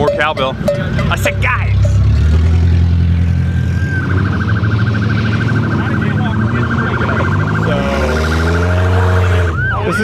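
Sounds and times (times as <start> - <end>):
police siren pulsing: 0.0 - 10.0.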